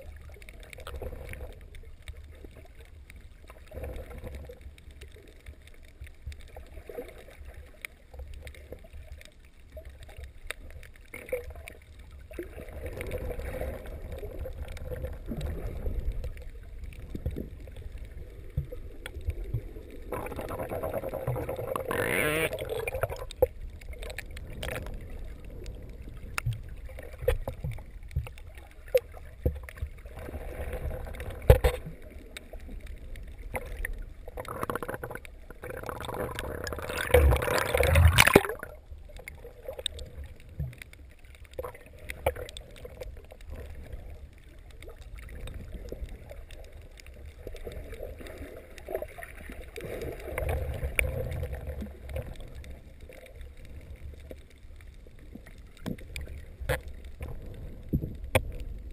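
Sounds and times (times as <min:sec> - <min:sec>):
muffled underwater rumble: 0:00.0 - 0:58.9
water splashing: 0:00.0 - 0:58.9.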